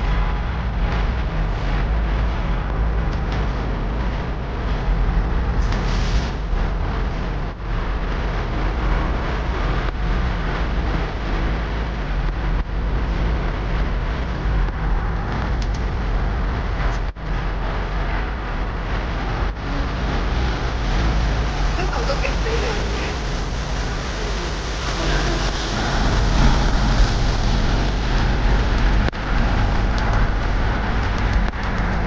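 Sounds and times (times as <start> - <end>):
rushing noise with low rumble: 0.0 - 32.0.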